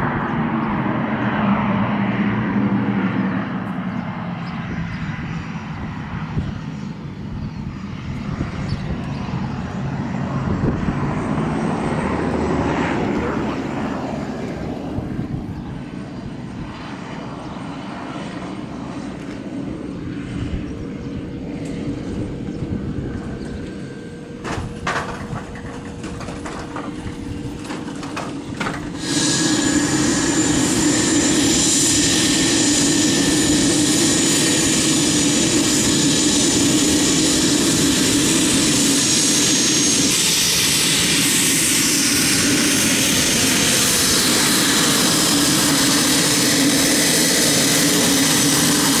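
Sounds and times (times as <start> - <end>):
turbine whine: 0.0 - 49.0
turboprop propeller drone: 0.0 - 49.0.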